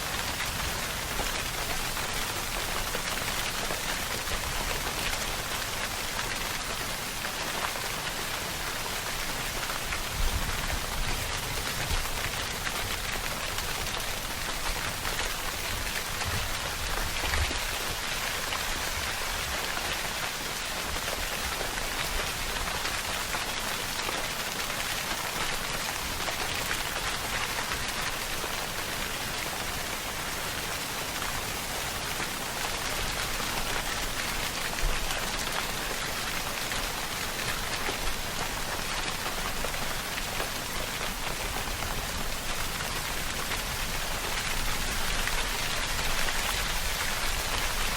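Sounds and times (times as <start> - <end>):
rain pattering on a surface: 0.0 - 47.9.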